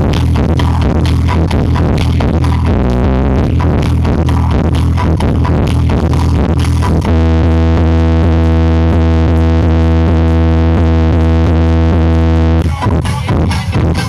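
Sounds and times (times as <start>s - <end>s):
loud electronic dance music: 0.0s - 14.0s.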